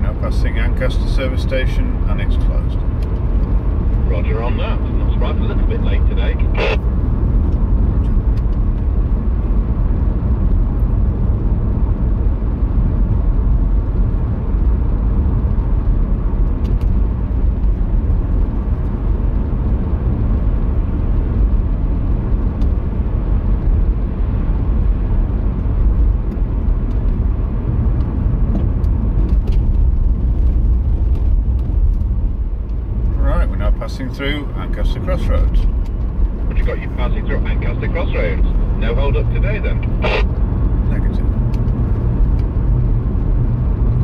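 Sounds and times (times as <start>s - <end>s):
car engine and tyre noise: 0.0s - 44.0s.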